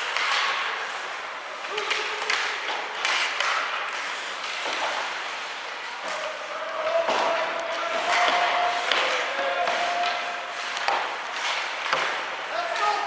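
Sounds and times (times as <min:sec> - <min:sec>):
clacks and knocks on ice: 0:01.7 - 0:05.4, 0:06.0 - 0:13.0.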